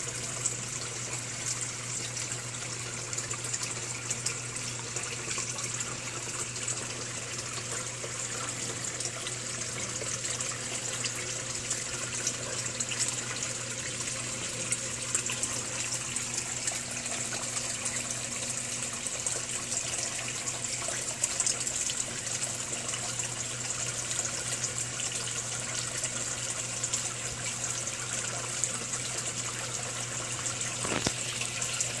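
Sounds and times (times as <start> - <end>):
fountain water bubbling and splashing: 0.0 - 32.0
low steady hum: 0.0 - 32.0.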